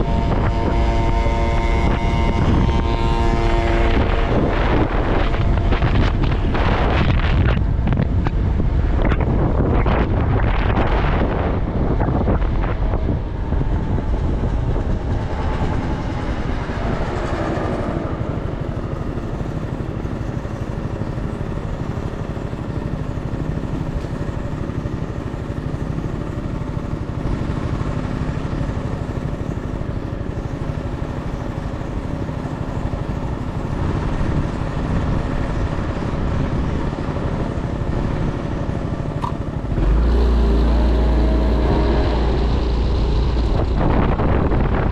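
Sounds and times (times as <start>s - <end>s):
motorcycle engine running: 0.0s - 44.9s
wind rushing over microphone: 0.0s - 44.9s.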